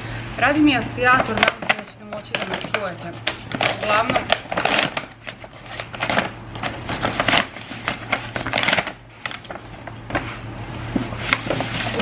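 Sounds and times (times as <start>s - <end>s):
extractor fan hum: 0.0s - 12.0s
paper bag crinkling: 1.1s - 10.5s, 11.2s - 12.0s.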